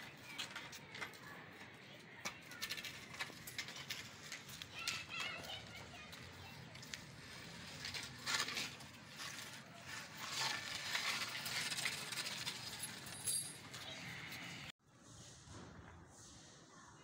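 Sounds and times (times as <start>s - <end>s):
puppy paws scraping on concrete: 0.0s - 14.7s.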